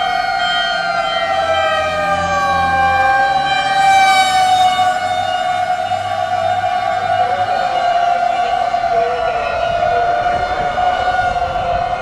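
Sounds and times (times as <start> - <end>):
fire engine sirens: 0.0 - 12.0.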